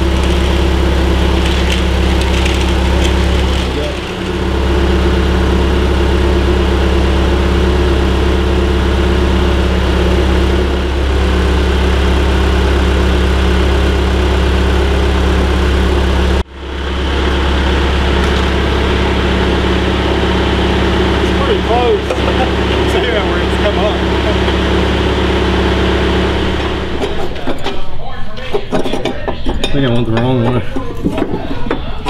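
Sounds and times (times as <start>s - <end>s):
diesel engine idling: 0.0s - 27.6s.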